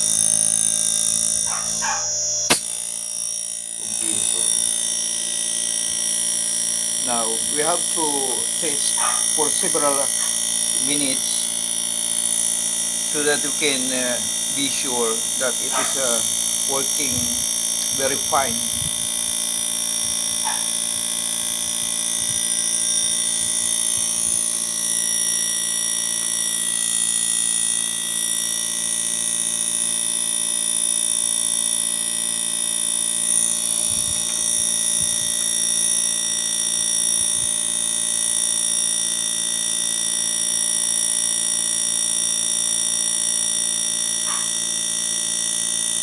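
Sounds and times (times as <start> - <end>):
air conditioner whine and hum: 0.0 - 46.0.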